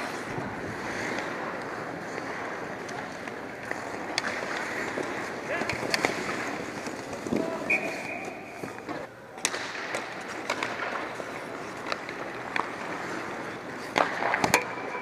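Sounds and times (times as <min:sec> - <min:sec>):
players' voices: 0:00.0 - 0:14.7
skates scraping on ice: 0:00.0 - 0:15.0
sticks and puck clacking: 0:00.0 - 0:15.0.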